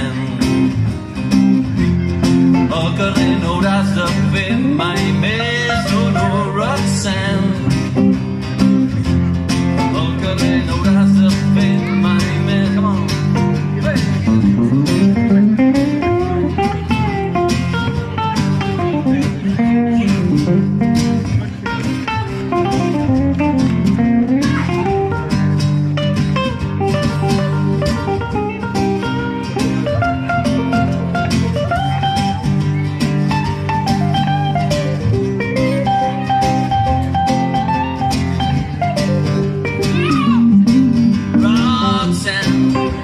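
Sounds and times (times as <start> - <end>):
acoustic guitar chords: 0.0 - 43.0
electric guitar lead line: 0.0 - 43.0.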